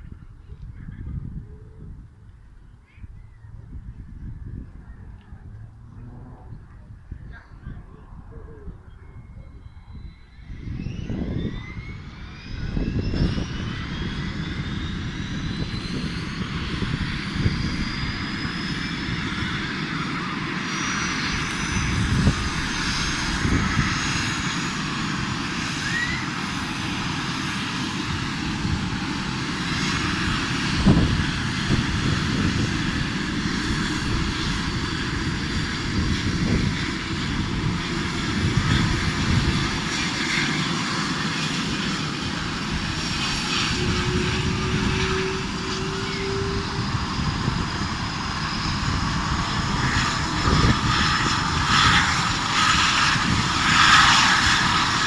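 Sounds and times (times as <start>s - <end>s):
helicopter engine and rotor: 6.6s - 55.0s.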